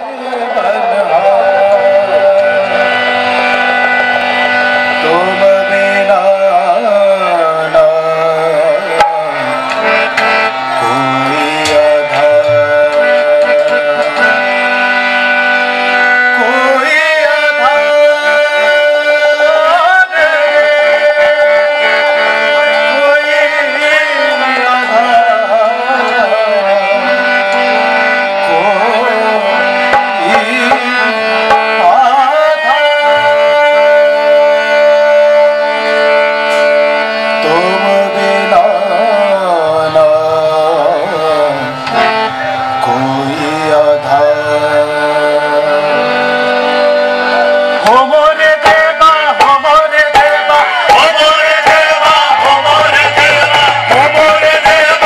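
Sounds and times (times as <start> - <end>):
men singing: 0.0 - 14.7, 16.3 - 27.5, 28.4 - 36.3, 37.2 - 55.0
harmonium: 0.0 - 55.0
tabla drumming: 0.0 - 55.0.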